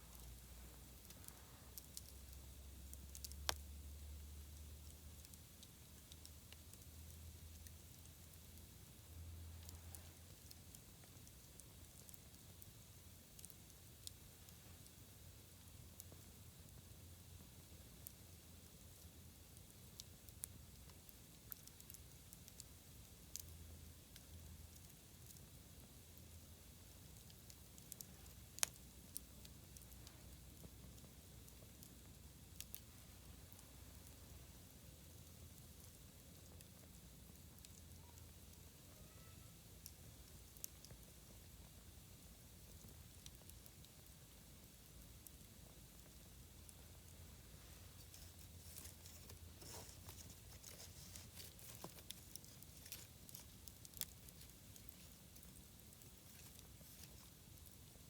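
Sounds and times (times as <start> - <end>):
campfire wood crackling: 0.0 - 58.0.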